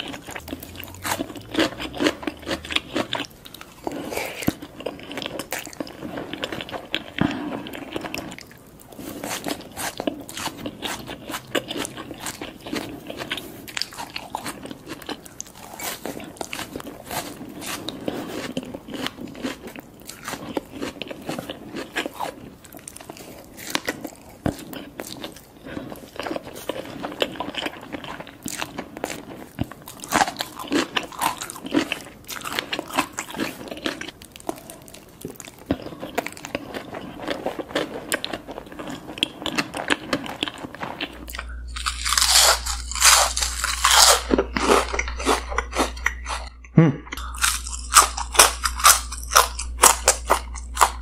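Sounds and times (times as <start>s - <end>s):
person crunching food: 0.0s - 51.0s.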